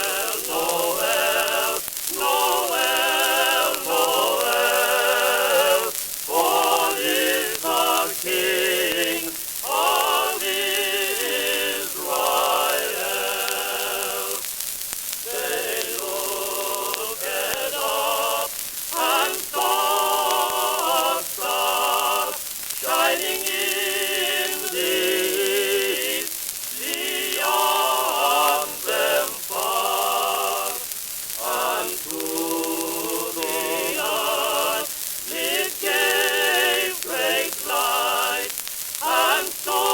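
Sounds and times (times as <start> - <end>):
record crackle and hiss: 0.0 - 39.9
singing on old phonograph record: 0.0 - 39.9.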